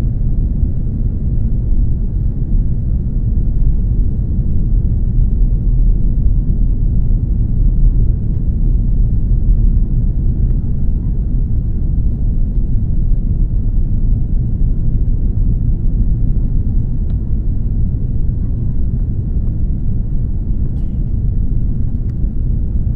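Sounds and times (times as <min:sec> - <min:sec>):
aircraft engines rumbling: 0:00.0 - 0:22.9.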